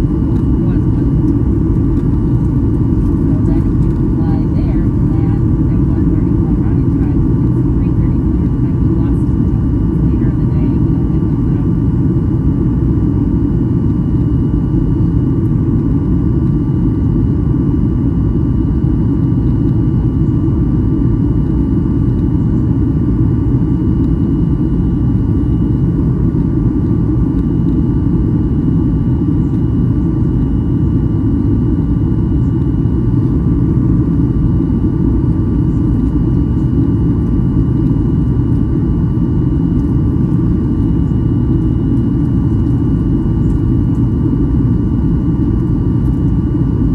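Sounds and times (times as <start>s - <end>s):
airplane cabin rumble: 0.0s - 46.9s
faint steady whines: 0.0s - 46.9s.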